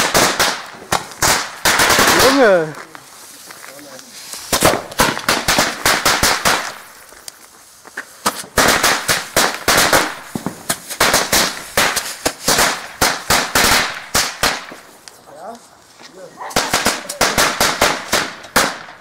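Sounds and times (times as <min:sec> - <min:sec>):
fireworks bangs: 0:00.0 - 0:07.2, 0:07.9 - 0:15.1, 0:16.4 - 0:19.0.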